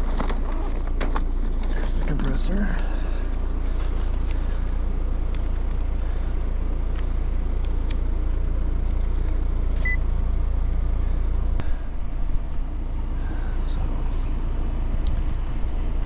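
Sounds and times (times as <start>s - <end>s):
heat pump unit humming: 0.0s - 16.0s.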